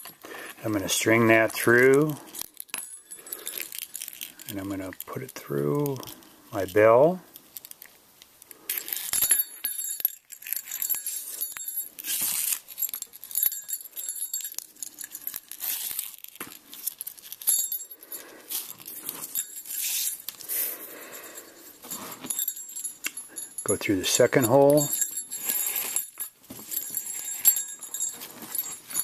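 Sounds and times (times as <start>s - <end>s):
small jingle bell ringing: 0.0s - 6.9s, 8.6s - 29.0s
rustling of lace and hands: 0.0s - 29.0s.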